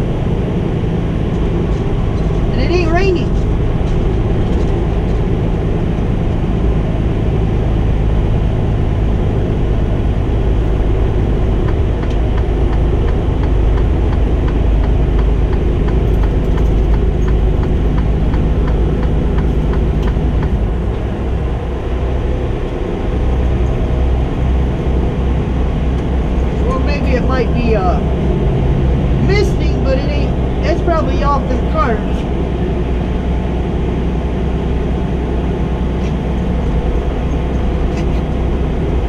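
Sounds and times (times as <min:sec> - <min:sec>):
diesel truck engine drone: 0:00.0 - 0:39.0
road noise: 0:00.0 - 0:39.0.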